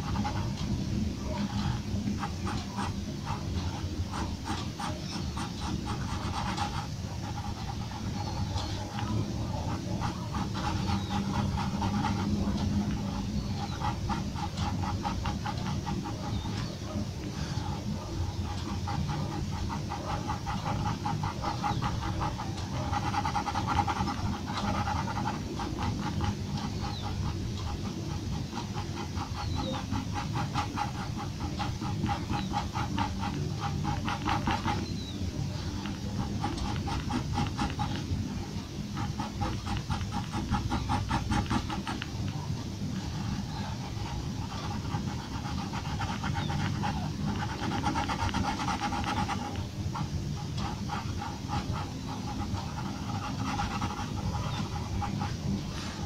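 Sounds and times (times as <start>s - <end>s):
pencil scratching on paper: 0.0s - 56.0s.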